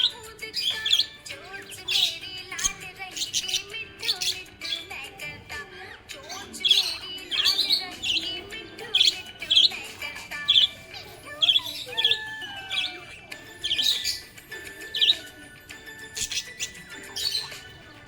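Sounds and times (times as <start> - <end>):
budgerigar high chirps: 0.0 - 5.0, 6.2 - 17.8
budgerigar warbling chatter: 0.0 - 5.0, 6.2 - 15.4, 16.1 - 18.0.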